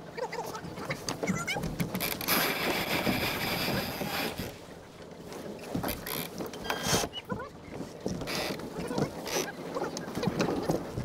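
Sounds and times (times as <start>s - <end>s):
sail flapping and lines running: 0.0s - 11.0s.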